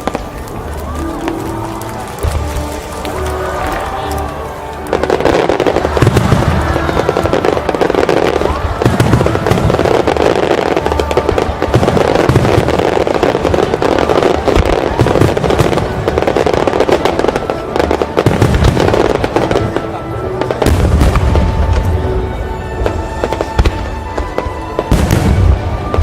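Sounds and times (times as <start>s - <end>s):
fireworks bangs and crackles: 0.0s - 26.0s
music: 0.0s - 26.0s.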